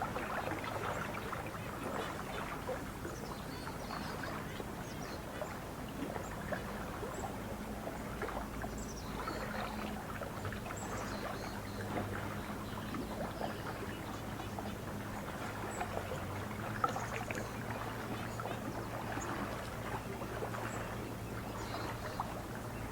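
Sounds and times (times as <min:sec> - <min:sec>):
low steady hum: 0:00.0 - 0:22.9
water lapping and trickling: 0:00.0 - 0:22.9.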